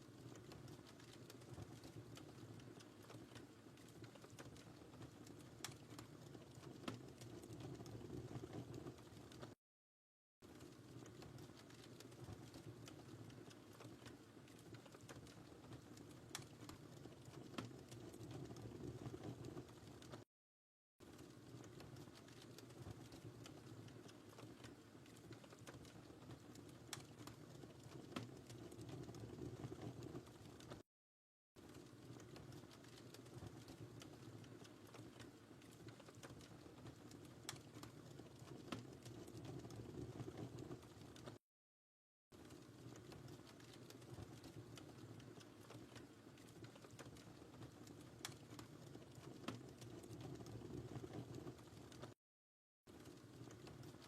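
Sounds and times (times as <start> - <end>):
fire crackling and popping: 0.0 - 9.6, 10.4 - 20.3, 21.0 - 30.8, 31.6 - 41.4, 42.4 - 52.2, 52.9 - 54.0
low rumble of flames: 0.0 - 9.6, 10.5 - 20.2, 21.1 - 30.8, 31.6 - 41.4, 42.4 - 52.1, 53.0 - 54.0.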